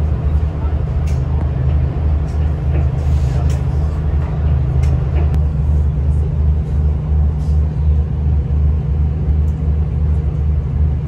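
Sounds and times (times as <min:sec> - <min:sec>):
train interior rumble: 0:00.0 - 0:11.0.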